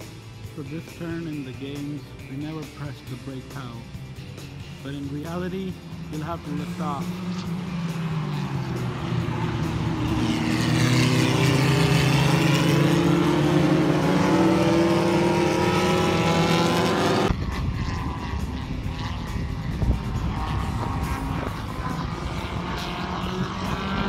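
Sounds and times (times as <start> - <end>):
distant engine drone: 0.0 - 24.0
race car engines passing: 0.0 - 24.0.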